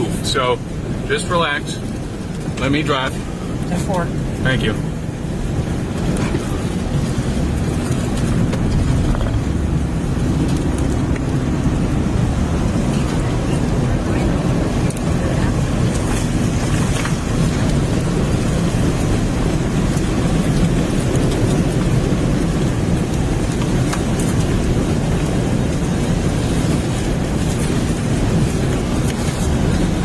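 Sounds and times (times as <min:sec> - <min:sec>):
rain and debris striking vehicle: 0:00.0 - 0:30.0
tornado winds rumbling: 0:00.0 - 0:30.0.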